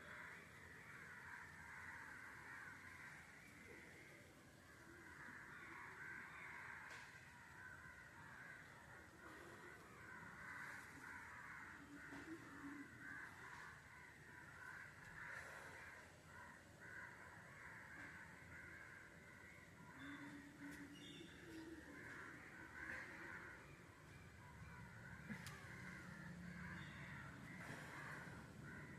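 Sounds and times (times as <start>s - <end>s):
many birds chattering: 0.0s - 28.9s.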